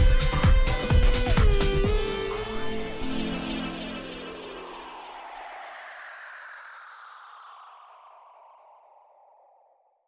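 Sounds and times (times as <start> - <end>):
hissing downward synth sweep: 0.1 - 10.0.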